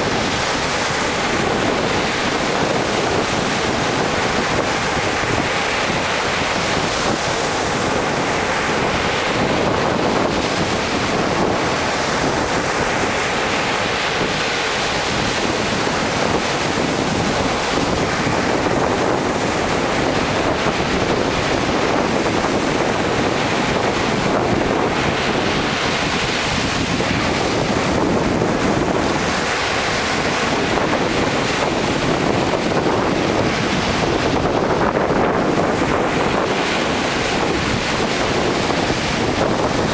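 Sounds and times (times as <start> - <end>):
surf breaking on sandy beach: 0.0 - 39.9
wind on microphone: 0.0 - 39.9.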